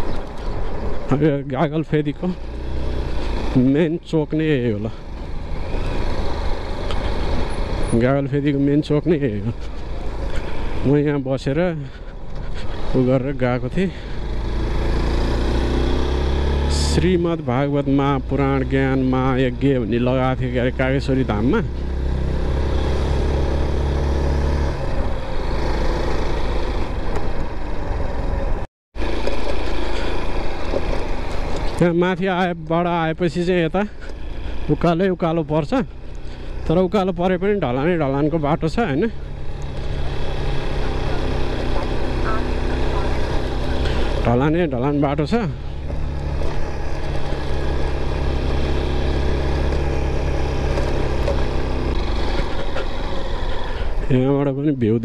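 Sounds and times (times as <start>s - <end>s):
motorcycle engine running: 0.0s - 54.2s
road noise: 0.0s - 55.0s.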